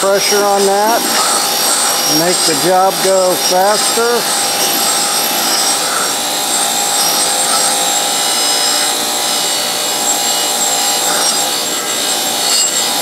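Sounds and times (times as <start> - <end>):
grinder high whine: 0.0 - 13.0
wire wheel scrubbing rusty steel: 0.0 - 13.0.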